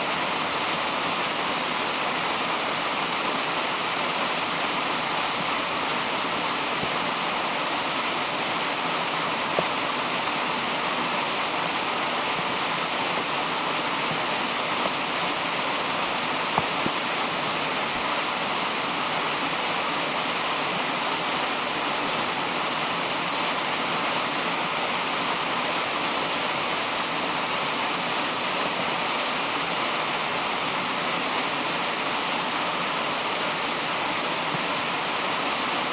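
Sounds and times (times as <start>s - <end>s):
stream water rushing: 0.0s - 35.9s.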